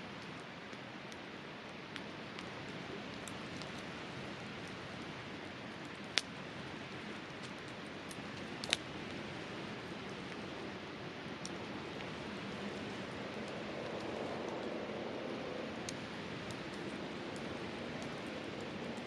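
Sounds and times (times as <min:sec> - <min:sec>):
campfire hissing and crackling: 0:00.0 - 0:19.0.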